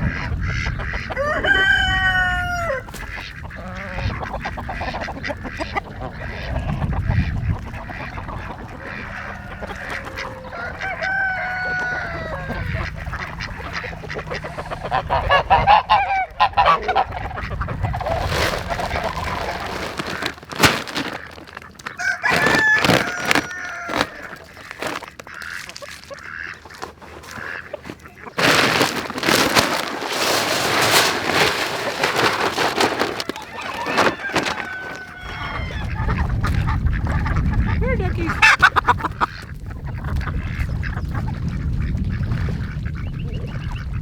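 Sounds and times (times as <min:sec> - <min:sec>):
geese honking: 0:00.0 - 0:43.1
chickens calling: 0:00.0 - 0:44.0.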